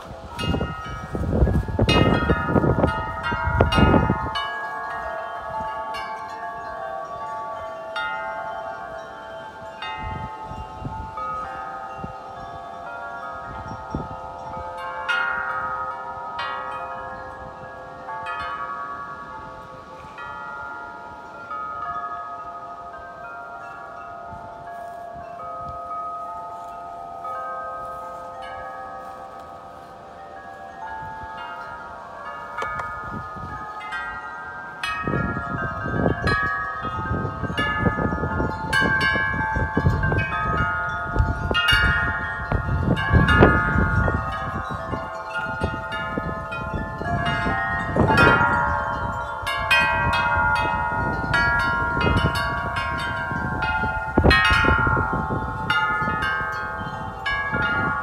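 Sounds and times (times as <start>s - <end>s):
low rumble of wind: 0.0s - 58.0s
wind chimes ringing: 0.0s - 58.0s.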